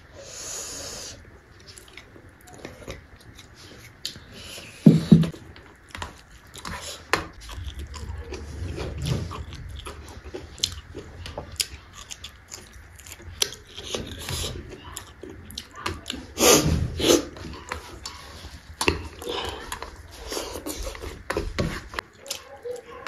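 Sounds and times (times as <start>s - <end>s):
noisy chewing burst: 0.1s - 23.0s
person chewing with wet smacking: 1.2s - 23.0s.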